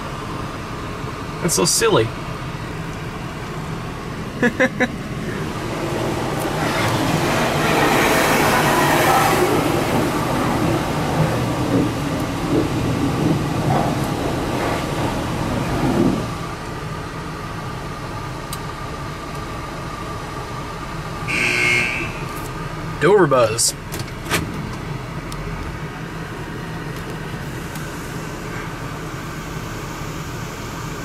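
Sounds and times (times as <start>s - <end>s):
car wash rumble and hiss: 0.0s - 31.0s.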